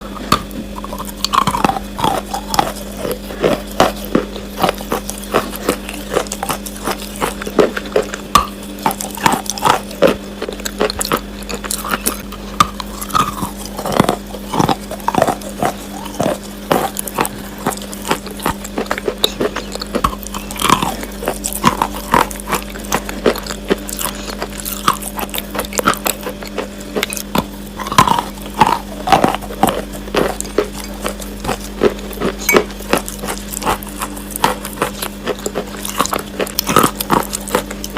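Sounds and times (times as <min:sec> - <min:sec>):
steady low hum: 0:00.0 - 0:37.9
chalk being chewed: 0:00.1 - 0:37.9.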